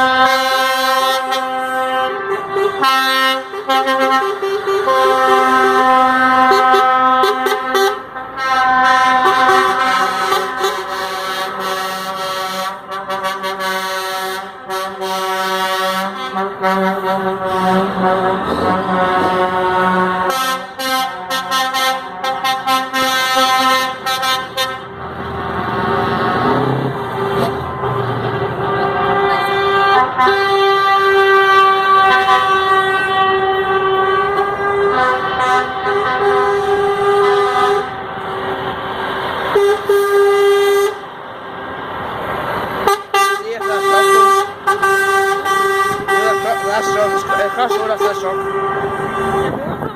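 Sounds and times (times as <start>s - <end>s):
truck air horns blowing: 0.0s - 25.2s, 25.8s - 41.8s, 42.6s - 49.9s.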